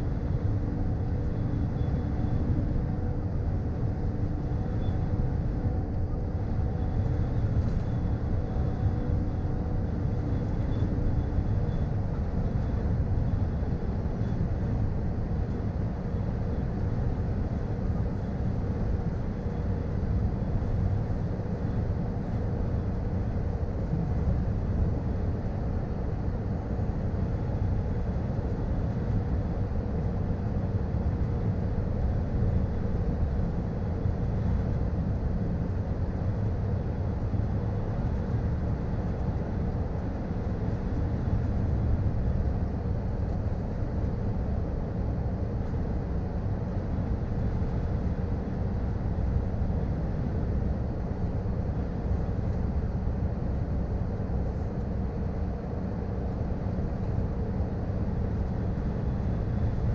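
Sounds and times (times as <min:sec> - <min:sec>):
diesel truck engine drone: 0:00.0 - 0:59.9.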